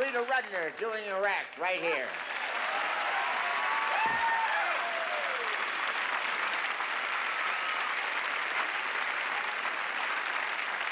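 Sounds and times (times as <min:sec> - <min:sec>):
large audience applauding: 0:01.5 - 0:10.9.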